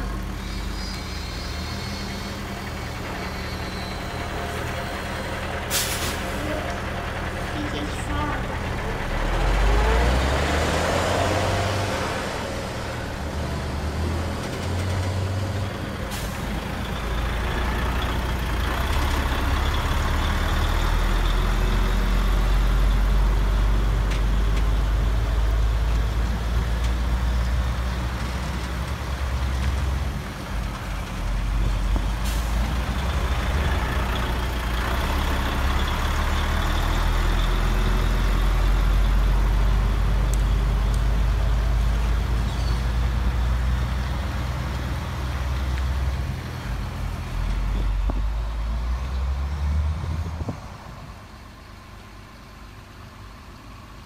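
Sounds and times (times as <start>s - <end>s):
model truck diesel engine: 0.0s - 54.0s.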